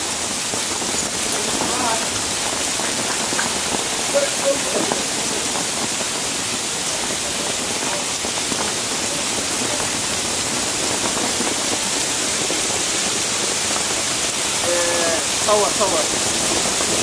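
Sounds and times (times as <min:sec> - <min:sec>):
heavy rain and hail on gravel: 0:00.0 - 0:17.0.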